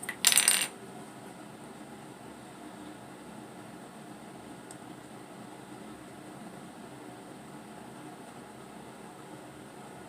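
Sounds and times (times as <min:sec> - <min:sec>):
room tone hiss: 0:00.0 - 0:10.0.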